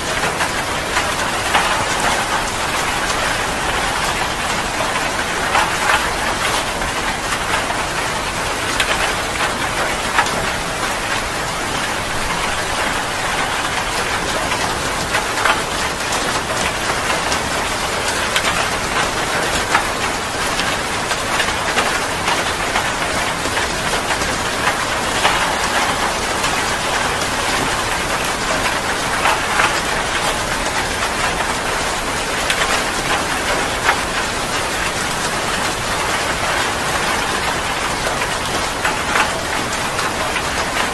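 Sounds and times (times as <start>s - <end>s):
heavy rain falling: 0.0s - 40.9s
raindrops ticking on a surface: 0.0s - 40.9s.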